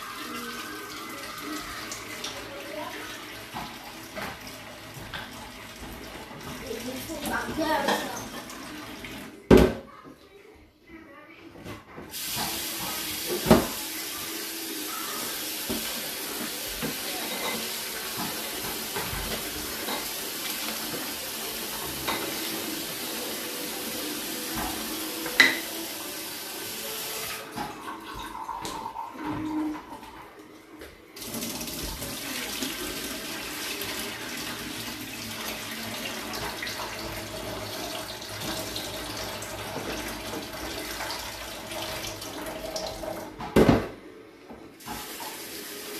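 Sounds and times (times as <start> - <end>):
tap water running into a bowl: 0.0 - 9.7, 12.1 - 30.5, 31.2 - 43.8, 44.8 - 45.9.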